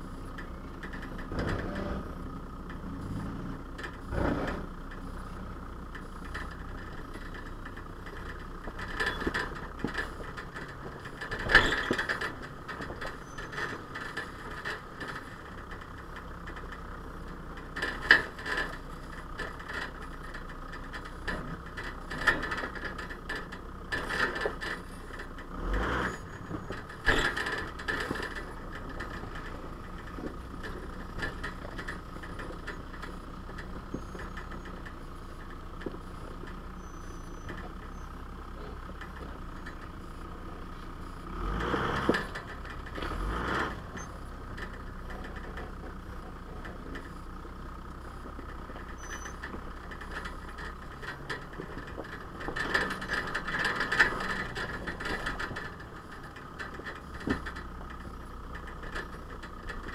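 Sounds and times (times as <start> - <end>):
vehicle body knocking and rattling: 0.0 - 59.9
vehicle engine running at low speed: 0.0 - 59.9.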